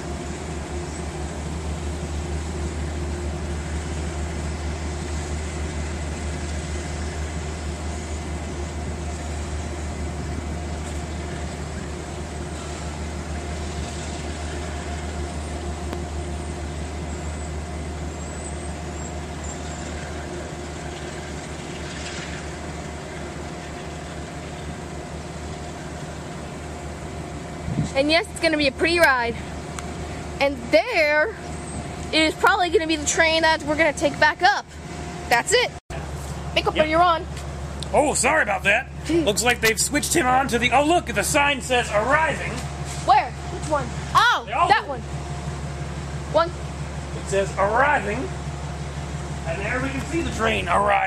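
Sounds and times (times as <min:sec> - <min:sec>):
diesel locomotive engine drone: 0:00.0 - 0:51.0.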